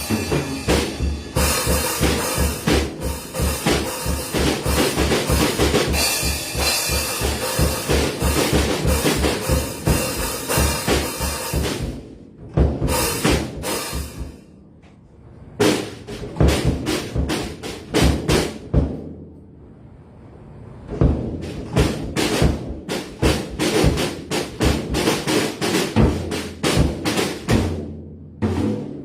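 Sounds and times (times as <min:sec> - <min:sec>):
drum kit rapid strikes: 0:00.0 - 0:14.4, 0:15.6 - 0:19.1, 0:20.9 - 0:29.0.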